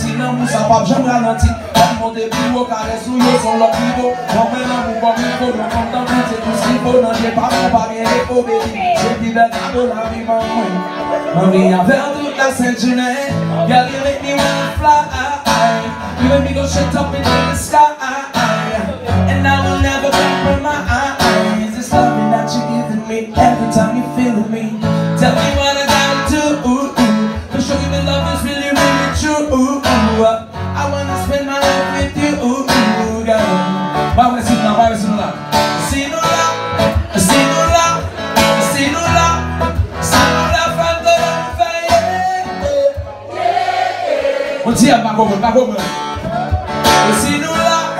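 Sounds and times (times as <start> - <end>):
man singing: 0.0 - 43.3, 44.6 - 47.9
acoustic guitar strummed: 0.0 - 44.0, 44.7 - 47.9.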